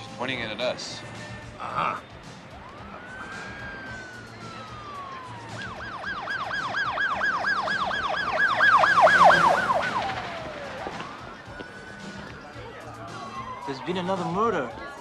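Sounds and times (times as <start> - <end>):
police siren wail and yelp: 2.1 - 15.0.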